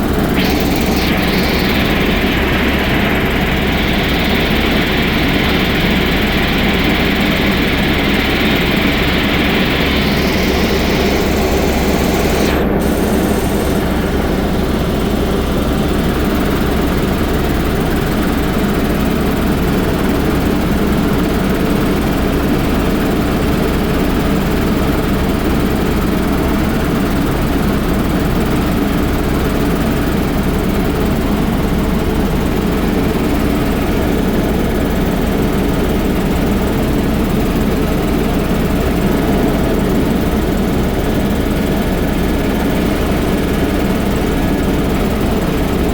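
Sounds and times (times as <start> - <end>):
helicopter engine and rotor noise: 0.0 - 45.9.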